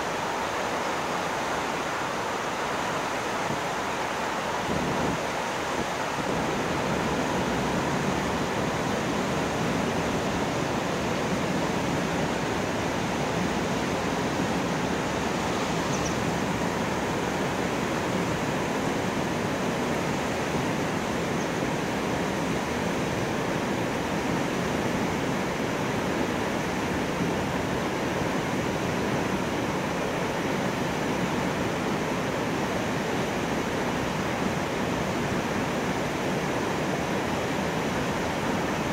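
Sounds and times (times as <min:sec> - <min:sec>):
water rushing through sluice gates: 0:00.0 - 0:38.9.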